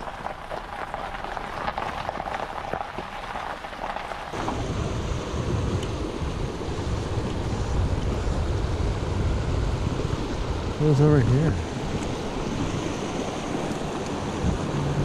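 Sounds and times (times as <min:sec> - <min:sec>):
stream running over rocks: 0:00.0 - 0:15.0
wind rumble on microphone: 0:00.0 - 0:15.0.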